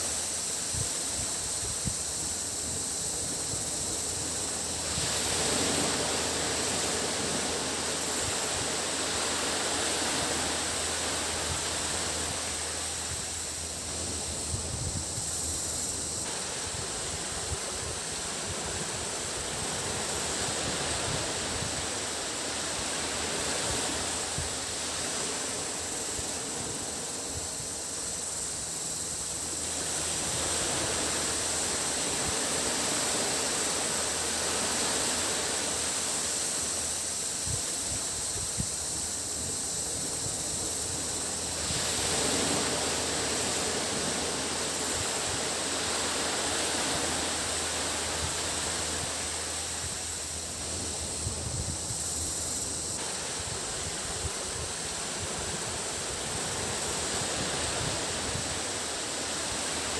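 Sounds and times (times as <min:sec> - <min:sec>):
cicadas droning: 0:00.0 - 0:59.9
waves breaking on beach: 0:00.0 - 0:59.9.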